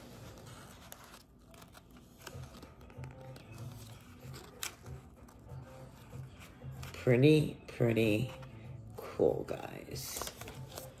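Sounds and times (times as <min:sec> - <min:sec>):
book pages rustling: 0:00.0 - 0:11.0
faint background music: 0:00.0 - 0:11.0.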